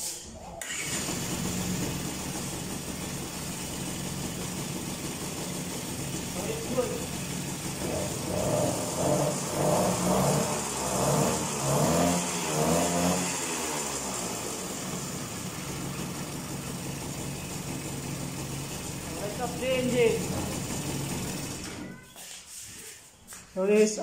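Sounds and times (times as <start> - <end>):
two-stroke engine revving: 0.6 - 22.0.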